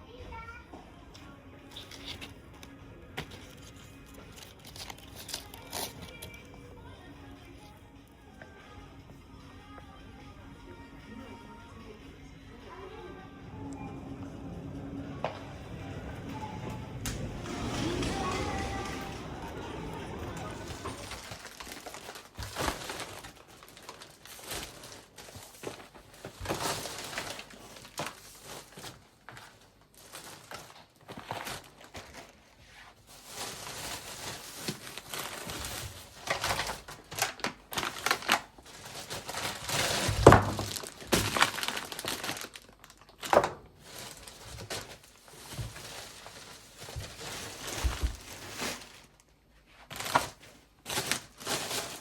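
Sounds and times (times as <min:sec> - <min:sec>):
rustling and crinkling: 0:01.2 - 0:06.6, 0:15.2 - 0:52.0.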